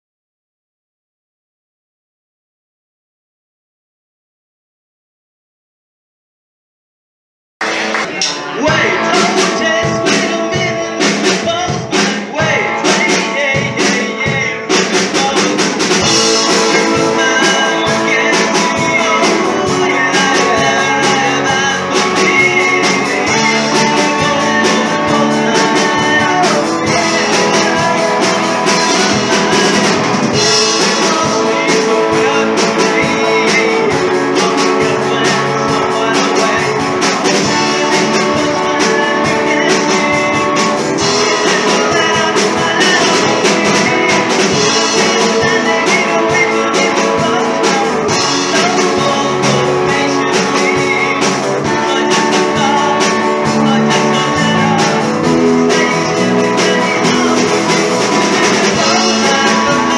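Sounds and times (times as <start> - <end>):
drum kit: 7.6 - 59.9
electric guitar: 7.6 - 59.9
person singing: 7.6 - 59.9
rock and roll band playing: 7.6 - 59.9.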